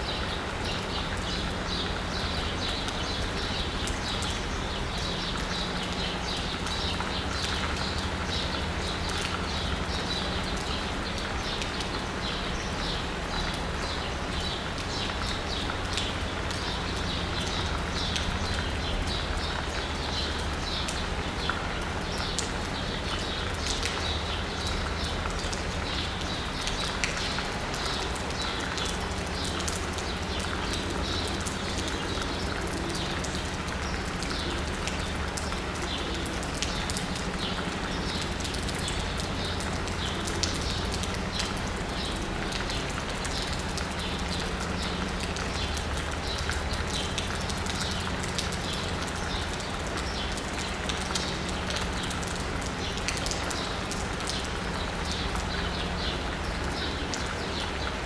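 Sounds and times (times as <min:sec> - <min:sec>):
rain pattering on asphalt: 0:00.0 - 0:58.0.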